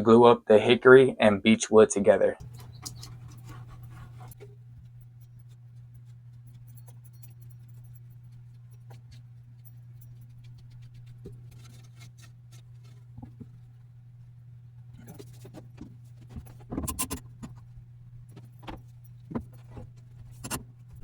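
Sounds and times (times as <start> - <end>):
wood and tools clicking and scraping: 2.4 - 13.9, 15.0 - 21.0
low hum: 2.4 - 21.0.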